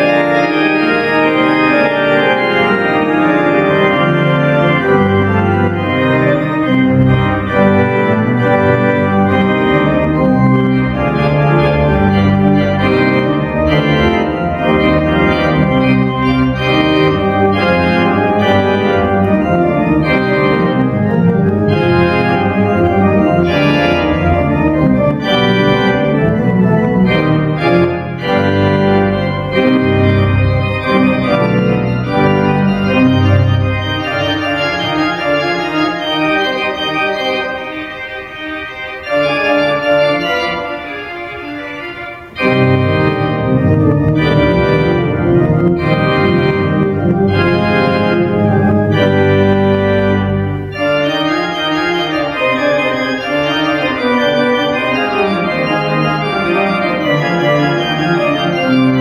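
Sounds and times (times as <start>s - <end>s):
organ pedal bass line: 0.0s - 59.0s
pipe organ playing loud: 0.0s - 59.0s.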